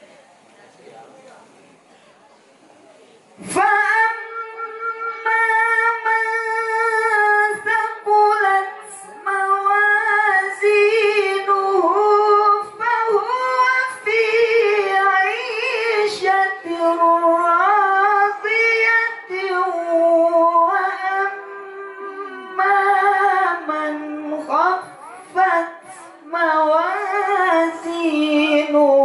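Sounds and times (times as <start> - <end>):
man reciting melodically into microphone: 3.4 - 29.0.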